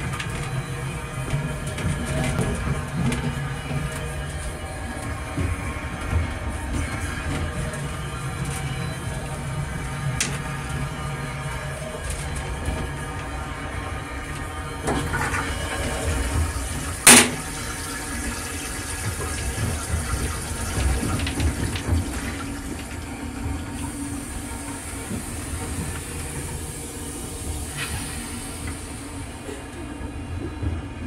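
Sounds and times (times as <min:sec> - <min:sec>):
toilet flushing water rushing: 0:00.0 - 0:31.0.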